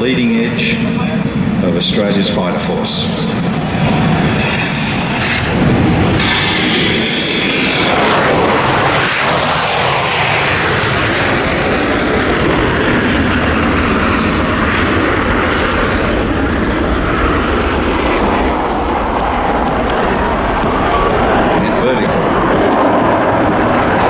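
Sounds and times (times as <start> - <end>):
jet flying by: 0.0 - 24.0.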